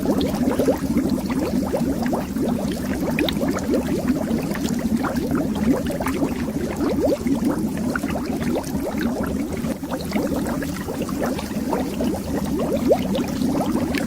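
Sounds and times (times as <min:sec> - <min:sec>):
underwater bubbles popping: 0:00.0 - 0:14.0.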